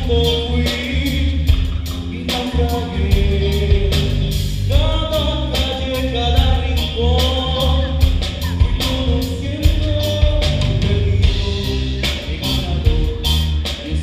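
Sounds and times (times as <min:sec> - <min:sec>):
drum kit beat: 0:00.0 - 0:14.0
electric guitar: 0:00.0 - 0:14.0
live band playing: 0:00.0 - 0:14.0
man singing into microphone: 0:00.0 - 0:14.0.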